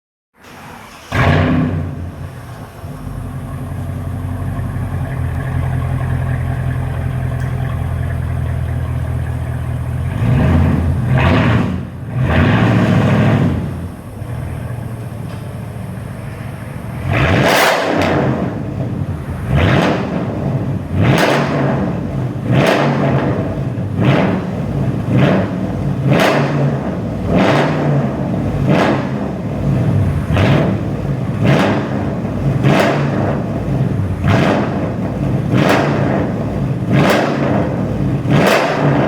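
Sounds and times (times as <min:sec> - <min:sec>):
car engine idling and revving: 0:00.5 - 0:39.0.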